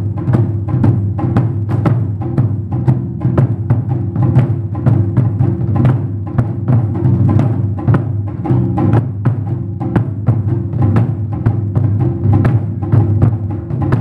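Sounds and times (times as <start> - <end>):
taiko drums: 0.0 - 14.0.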